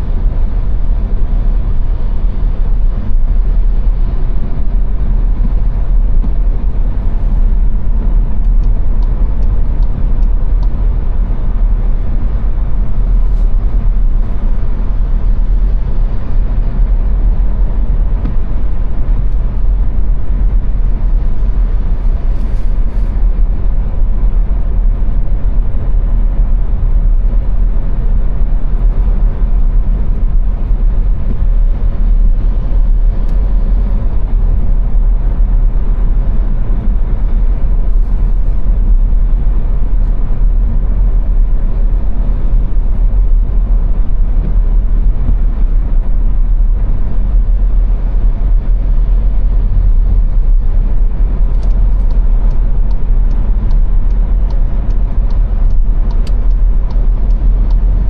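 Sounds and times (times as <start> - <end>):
car tyre and engine rumble: 0.0 - 58.0.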